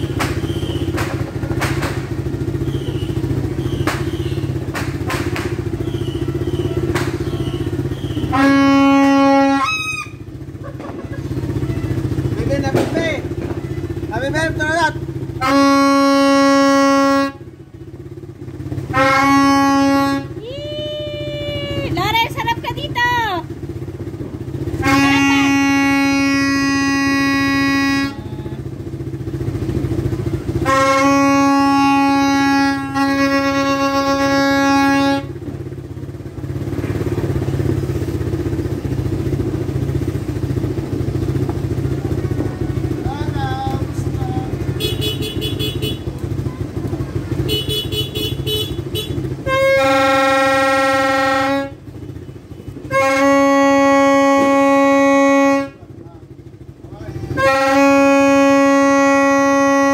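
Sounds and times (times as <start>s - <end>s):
plastic horn blasts: 0.0s - 10.5s, 14.6s - 18.0s, 18.7s - 20.5s, 24.4s - 38.5s, 39.1s - 56.6s, 57.2s - 59.9s.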